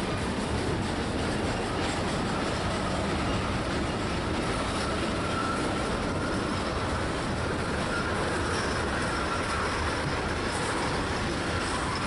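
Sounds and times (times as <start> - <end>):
train wheels rumbling on rail: 0.0 - 12.0
high wheel squeal: 1.6 - 12.0.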